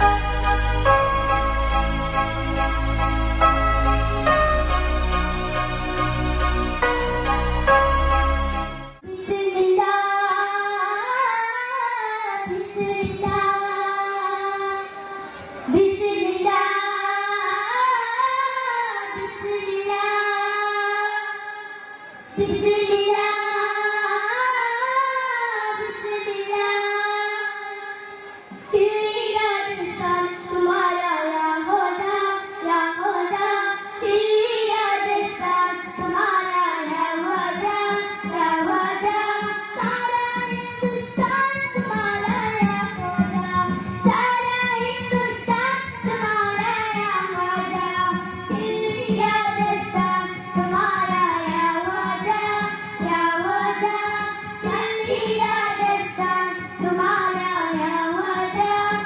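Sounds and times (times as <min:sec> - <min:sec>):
children singing into microphones: 0:00.0 - 0:01.8, 0:09.0 - 0:59.0.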